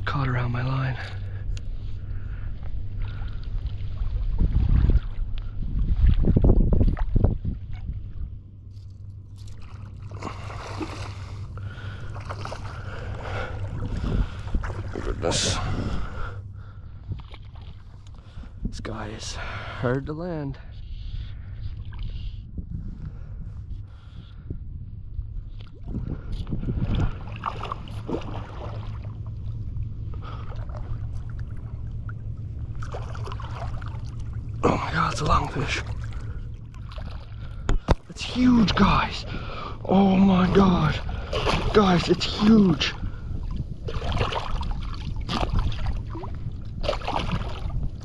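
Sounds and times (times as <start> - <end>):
water sloshing and splashing: 0.0 - 19.6, 21.1 - 22.5, 25.2 - 48.0
wind rumble on microphone: 0.0 - 48.0.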